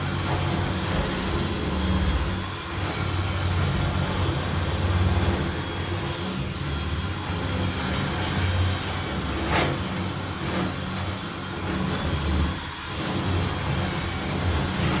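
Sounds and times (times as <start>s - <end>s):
electric drill boring into metal: 0.0s - 15.0s.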